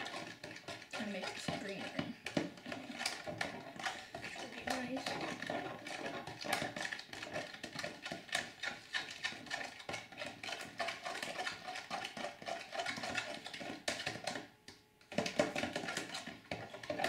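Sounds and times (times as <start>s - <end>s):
spoon stirring wet slime: 0.0s - 17.0s.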